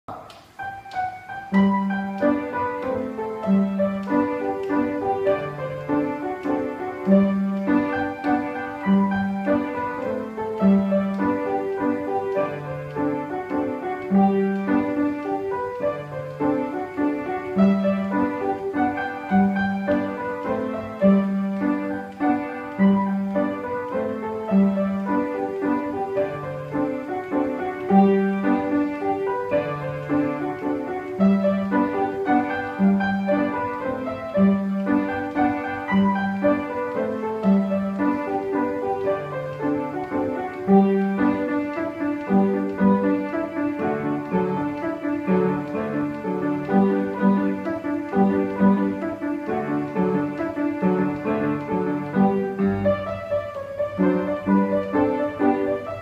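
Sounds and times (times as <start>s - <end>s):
upright piano waltz: 0.0s - 56.0s.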